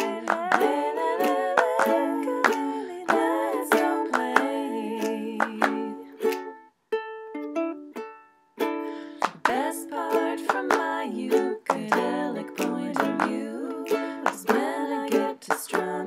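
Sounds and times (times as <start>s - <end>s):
wordless vocal melody: 0.0s - 6.6s, 8.9s - 16.0s
ukulele strumming: 0.0s - 16.0s.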